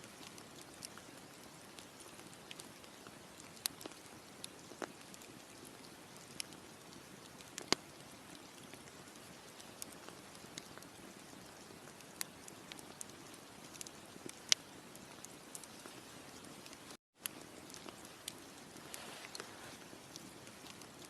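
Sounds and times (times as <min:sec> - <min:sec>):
campfire hiss: 0:00.0 - 0:21.0
burning wood popping: 0:00.1 - 0:21.0.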